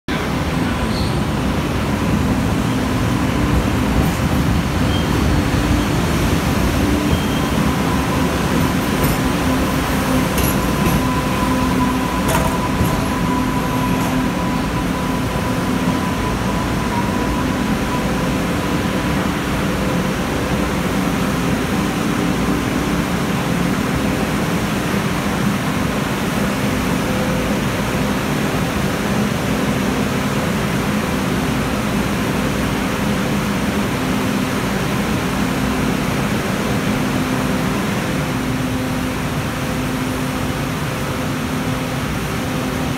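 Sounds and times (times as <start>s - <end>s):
light-rail train humming: 0.1s - 42.9s.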